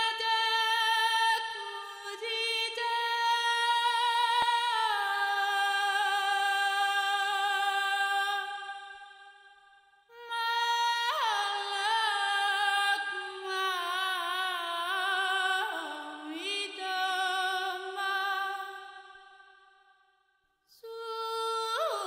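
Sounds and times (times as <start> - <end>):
woman singing wordlessly: 0.0 - 9.3, 10.1 - 19.2, 20.7 - 22.0.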